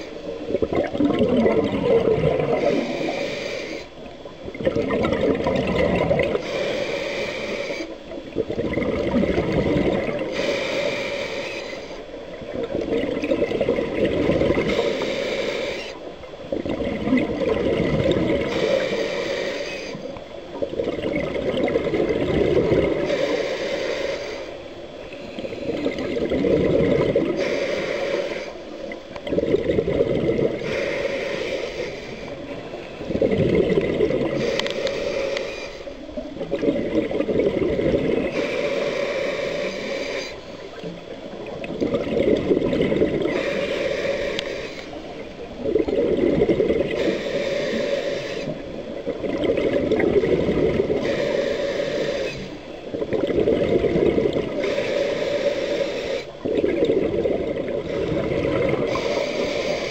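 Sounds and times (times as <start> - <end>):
regulator inhale hiss: 0.0 - 0.6, 1.7 - 4.2, 5.9 - 8.3, 9.5 - 12.9, 13.5 - 16.6, 17.6 - 20.7, 21.6 - 29.3, 30.3 - 59.9
bubbling exhaust underwater: 0.0 - 59.9.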